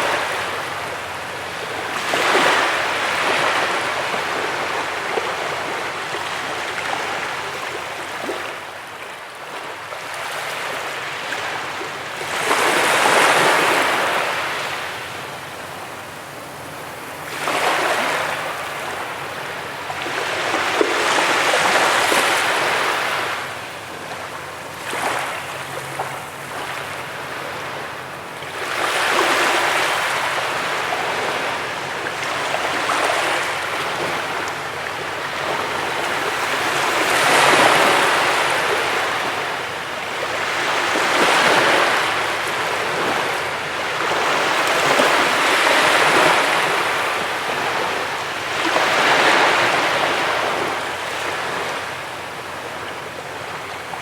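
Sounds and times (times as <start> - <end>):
ocean waves breaking: 0.0 - 54.0
water washing on beach: 0.0 - 54.0.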